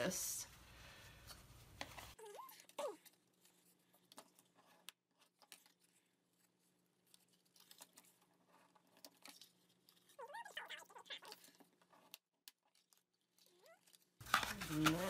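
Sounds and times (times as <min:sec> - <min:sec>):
cardstock rustling and crackling: 0:01.3 - 0:15.0.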